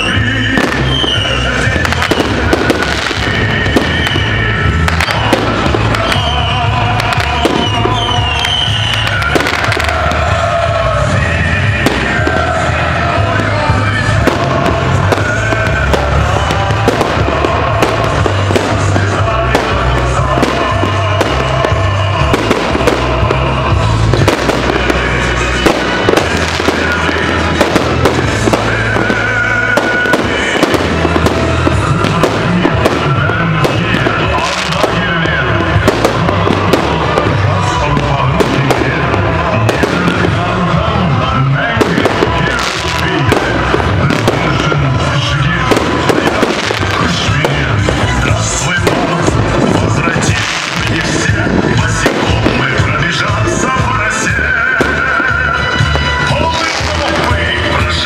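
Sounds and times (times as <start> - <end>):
fireworks bangs and pops: 0.0 - 58.0
loud music: 0.0 - 58.0.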